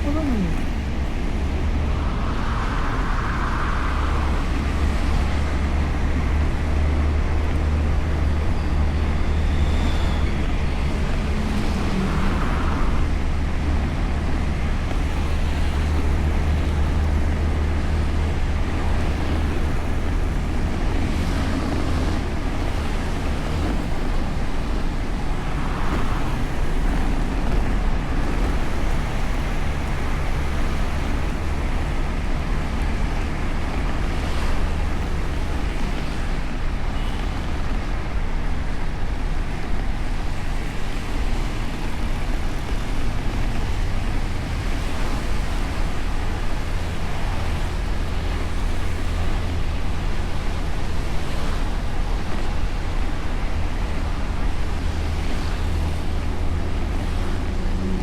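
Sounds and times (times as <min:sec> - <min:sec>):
road and traffic noise: 0:00.0 - 0:58.0
wind rumble on microphone: 0:00.0 - 0:58.0.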